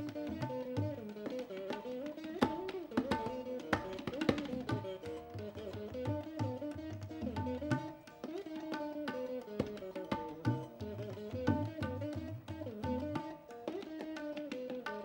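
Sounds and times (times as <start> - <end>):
plucked veena melody: 0.0 - 15.0
tabla strokes: 0.0 - 15.0.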